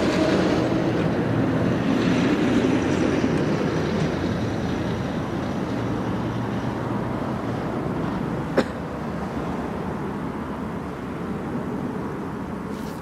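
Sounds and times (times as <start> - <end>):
heavy lorry engines rumbling: 0.0 - 13.0.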